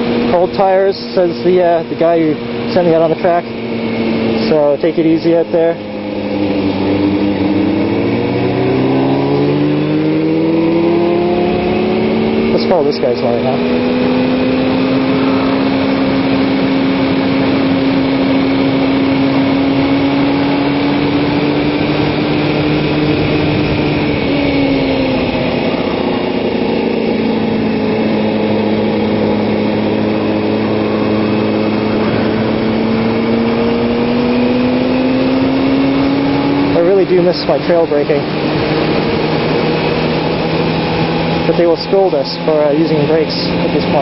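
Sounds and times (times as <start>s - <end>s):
motorcycle engine running: 0.0s - 44.0s
wind rush: 0.0s - 44.0s.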